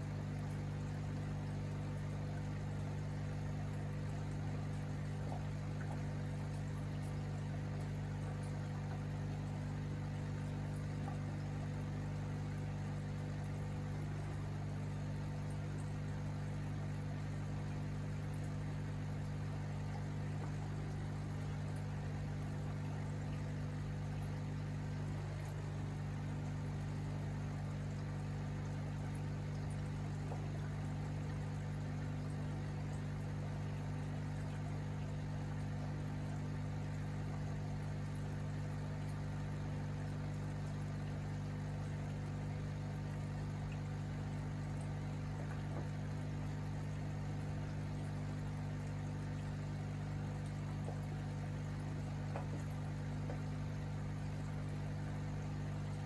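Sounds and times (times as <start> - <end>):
aquarium pump humming: 0.0 - 56.0
water bubbling: 0.1 - 56.0.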